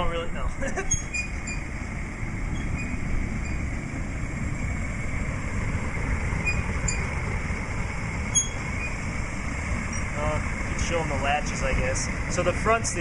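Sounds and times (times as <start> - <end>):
gas burner flame rumbling: 0.0 - 13.0.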